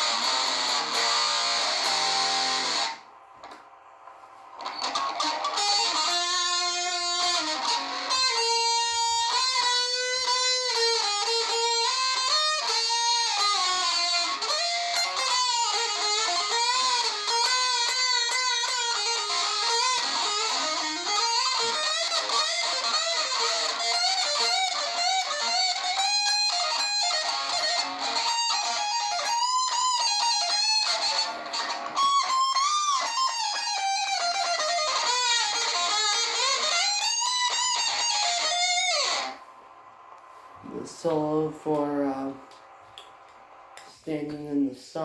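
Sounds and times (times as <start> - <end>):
distorted electric guitar solo: 0.0 - 3.6, 4.6 - 39.5.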